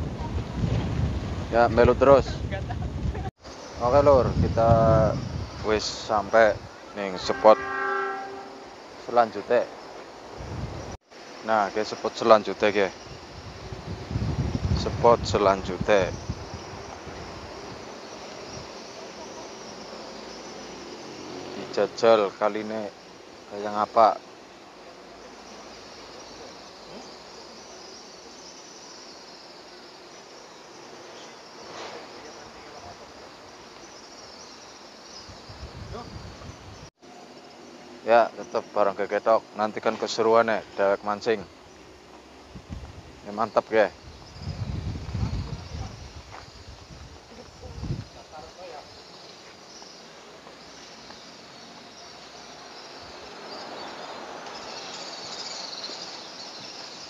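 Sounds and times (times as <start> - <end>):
insects chirring: 0.0 - 57.0
low outdoor hiss: 1.3 - 57.0.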